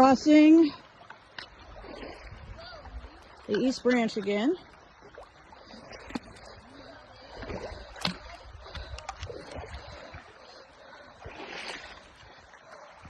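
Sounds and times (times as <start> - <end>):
feet wading and splashing: 0.0 - 13.0
flowing river water rushing: 0.0 - 13.0.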